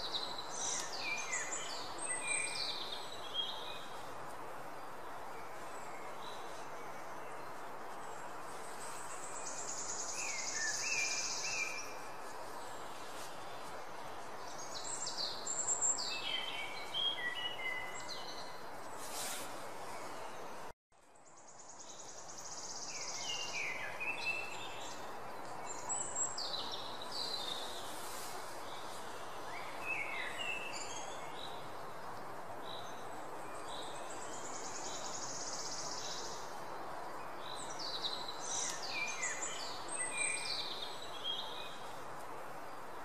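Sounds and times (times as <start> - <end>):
steady outdoor hiss: 0.0 - 43.0.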